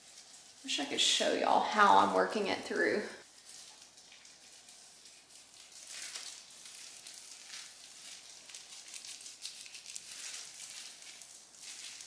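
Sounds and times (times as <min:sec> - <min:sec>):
wet rustling of hair: 0:00.0 - 0:12.0.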